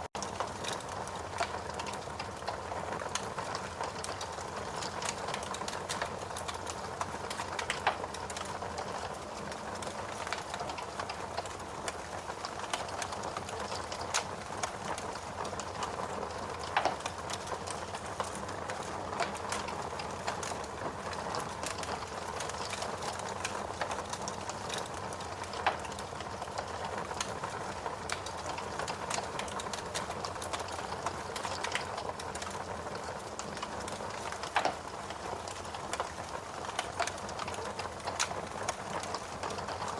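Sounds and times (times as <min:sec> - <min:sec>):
steady rain: 0:00.0 - 0:39.9
wood fire crackling: 0:00.0 - 0:39.9
burning logs popping: 0:00.2 - 0:39.9.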